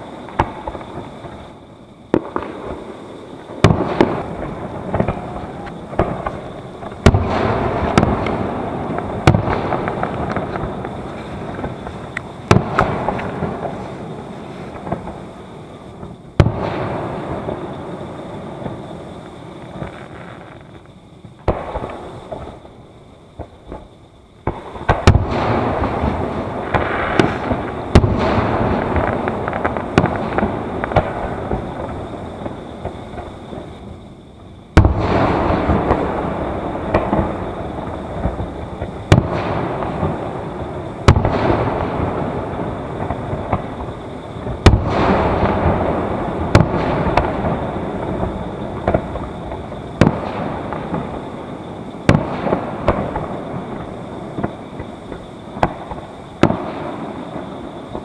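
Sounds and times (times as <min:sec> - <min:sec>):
fireworks booming: 0:00.0 - 0:58.0
fireworks crackle: 0:00.0 - 0:58.0
small fireworks pops: 0:00.0 - 0:58.0.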